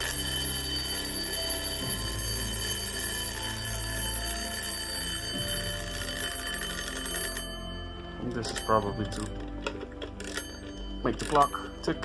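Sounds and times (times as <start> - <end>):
alarm clock bells ringing: 0.0 - 12.0.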